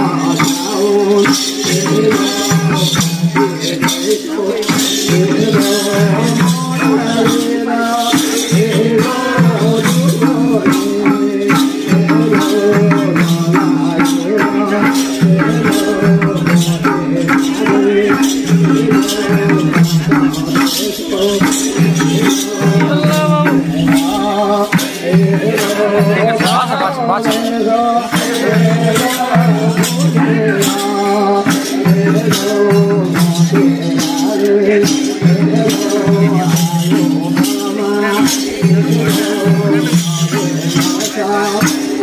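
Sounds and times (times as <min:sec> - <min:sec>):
hand percussion beat: 0:00.0 - 0:42.0
voices singing: 0:00.0 - 0:42.0.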